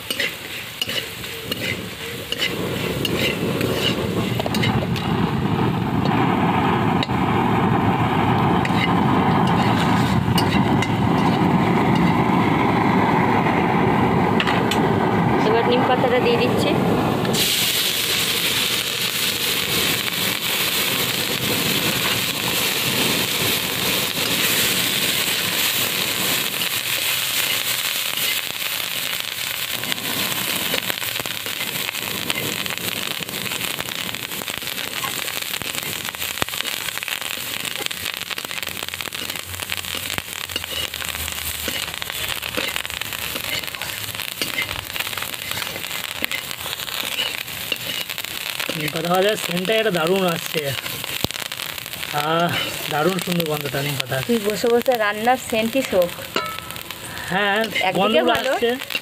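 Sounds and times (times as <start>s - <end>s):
leaves frying in hot oil: 0.0s - 59.0s.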